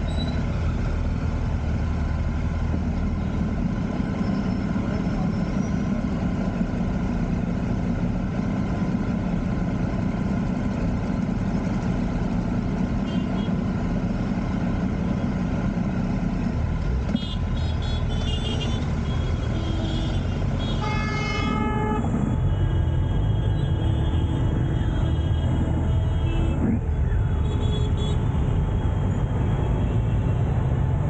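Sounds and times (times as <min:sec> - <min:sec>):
auto-rickshaw idling: 0:00.0 - 0:29.6.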